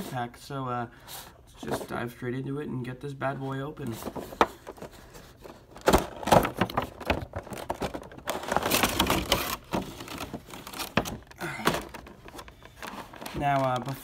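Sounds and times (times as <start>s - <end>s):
cardboard and plastic rustling: 1.6s - 2.2s, 3.2s - 14.0s.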